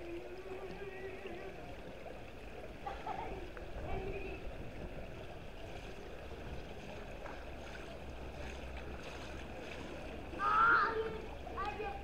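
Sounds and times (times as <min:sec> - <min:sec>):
pool water: 0:00.0 - 0:12.0
wind: 0:00.0 - 0:12.0.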